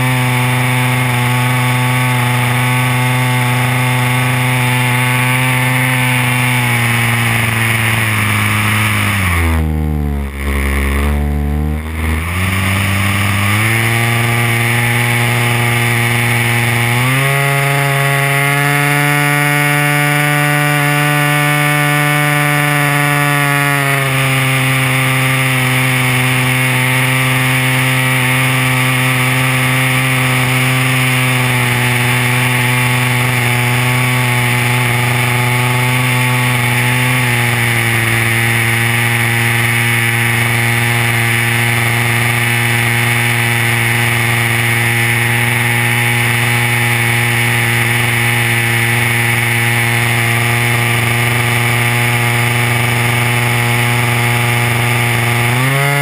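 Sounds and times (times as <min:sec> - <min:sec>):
two-stroke model plane engine: 0:00.0 - 0:56.0.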